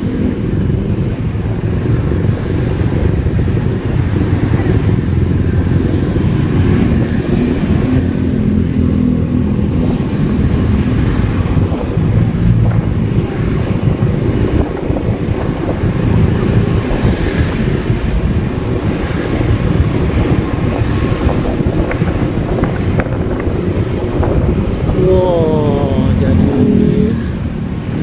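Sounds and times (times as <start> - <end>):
motorcycle engine: 0.0 - 28.0
road traffic: 0.0 - 28.0
wind buffeting microphone: 0.0 - 28.0.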